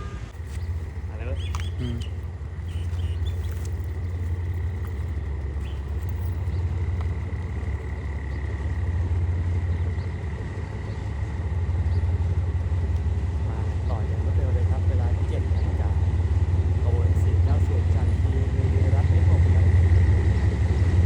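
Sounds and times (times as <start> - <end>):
diesel train engine rumbling: 0.0 - 21.0.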